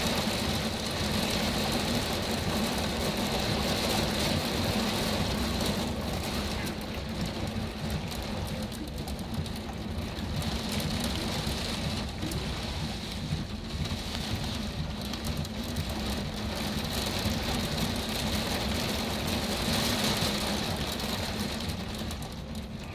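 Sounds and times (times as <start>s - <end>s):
rain: 0.0s - 22.9s.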